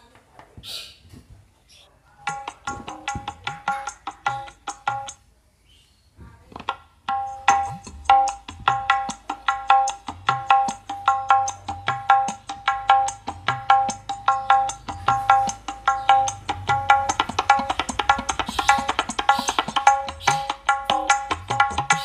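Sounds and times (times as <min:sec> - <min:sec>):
tabla-like percussive music from speaker: 0:02.2 - 0:05.2, 0:06.5 - 0:22.0.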